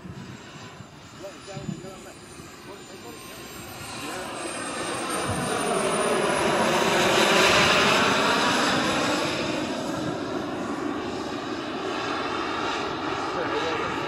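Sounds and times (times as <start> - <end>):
model jet plane flying: 0.0 - 14.0.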